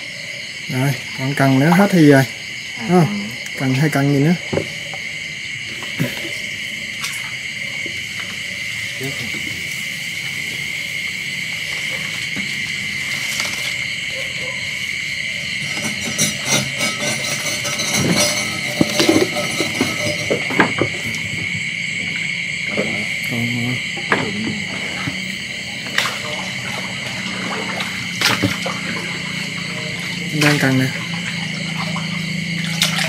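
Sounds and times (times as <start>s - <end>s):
night insects chorus: 0.0s - 33.0s.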